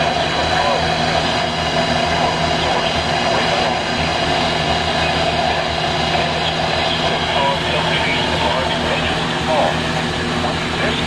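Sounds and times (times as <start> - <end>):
radio static hiss: 0.0 - 1.4, 2.0 - 11.0.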